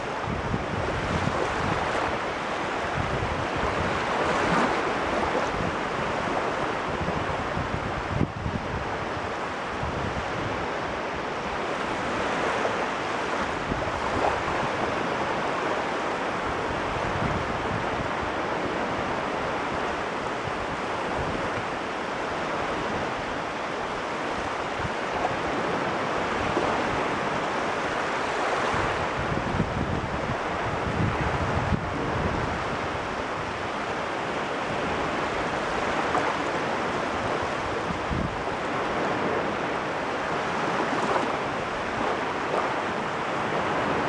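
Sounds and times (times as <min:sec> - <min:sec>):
sea waves breaking: 0:00.0 - 0:44.0
wind on microphone: 0:00.0 - 0:44.0.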